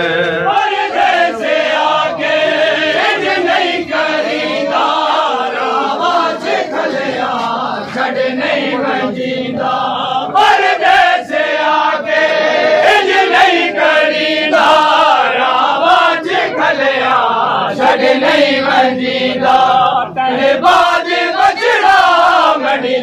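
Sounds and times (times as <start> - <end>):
men chanting a lament: 0.0 - 23.0.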